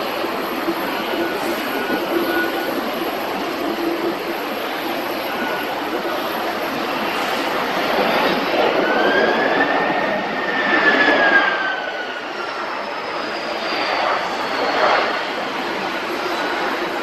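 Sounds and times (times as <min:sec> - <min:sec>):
jet airliner passing by: 0:00.0 - 0:17.0.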